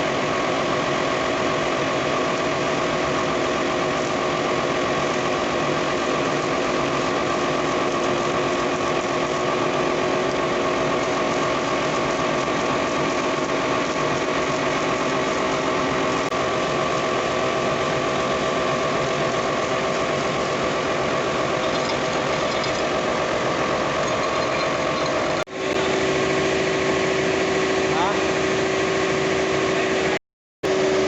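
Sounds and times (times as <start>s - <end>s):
refrigeration compressor humming: 0.0s - 31.0s.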